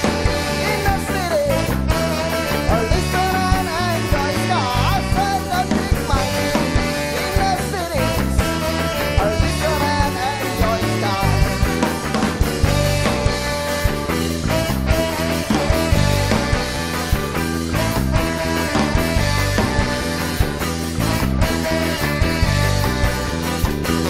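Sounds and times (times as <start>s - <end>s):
man singing: 0.0s - 13.9s, 14.5s - 17.1s, 17.8s - 20.6s
bass guitar: 0.0s - 24.0s
drums: 0.0s - 24.0s
electric guitars: 0.0s - 24.0s
trombone: 0.0s - 24.0s.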